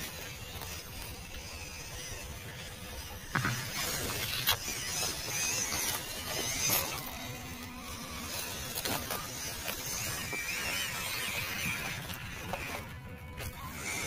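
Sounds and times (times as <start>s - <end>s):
toy car motor whine: 0.0s - 14.0s.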